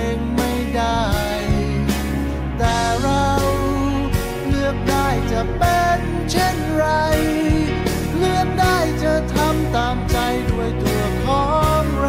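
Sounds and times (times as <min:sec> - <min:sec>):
song with full band: 0:00.0 - 0:12.0.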